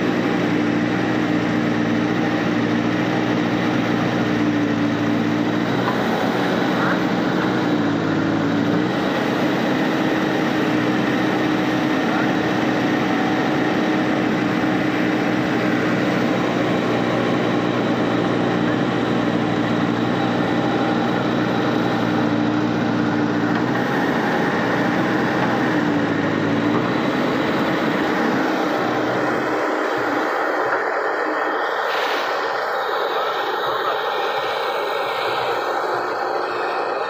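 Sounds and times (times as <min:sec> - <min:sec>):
diesel engine running under load: 0:00.0 - 0:37.0.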